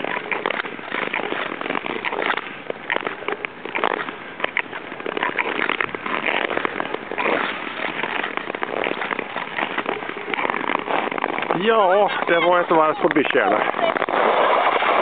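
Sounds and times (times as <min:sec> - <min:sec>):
ice skates scraping on ice: 0:00.0 - 0:15.0.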